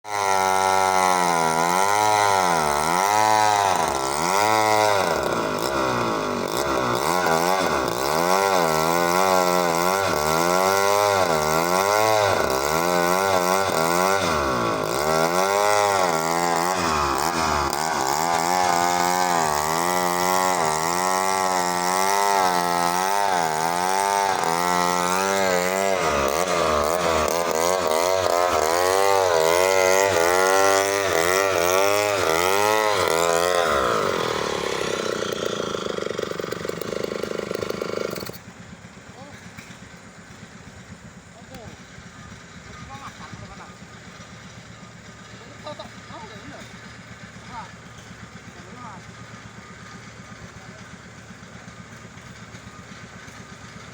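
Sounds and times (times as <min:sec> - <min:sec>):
chainsaw cutting a log: 0:00.0 - 0:53.9.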